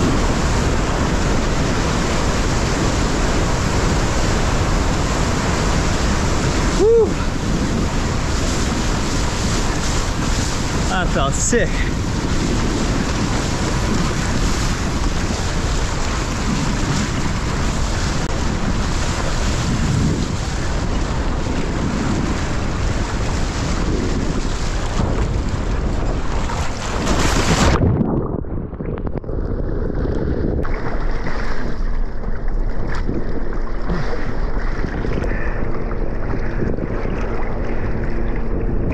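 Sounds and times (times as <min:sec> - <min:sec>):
muffled low rumble: 0:00.0 - 0:38.9
water rushing past board: 0:00.0 - 0:38.9
wind buffeting microphone: 0:00.0 - 0:38.9.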